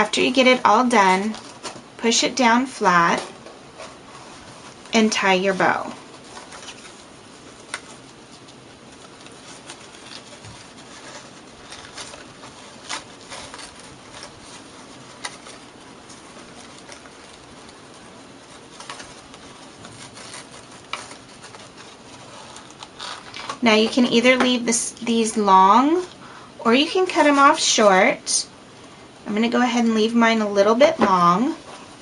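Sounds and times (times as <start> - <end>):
faint rustling of paper ribbon: 0.0 - 32.0
steady low hiss: 0.0 - 32.0.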